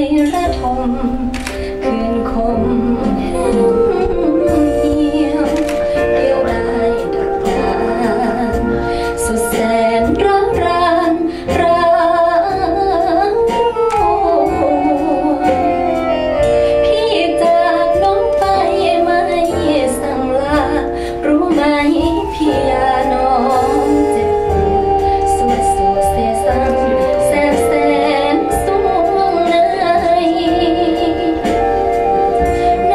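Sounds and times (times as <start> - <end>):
song with female vocal over loudspeakers: 0.0 - 32.9.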